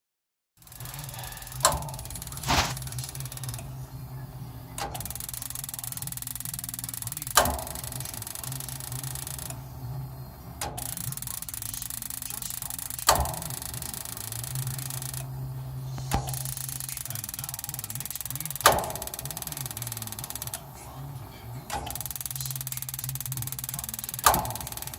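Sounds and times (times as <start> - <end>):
furnace humming: 0.6 - 24.9.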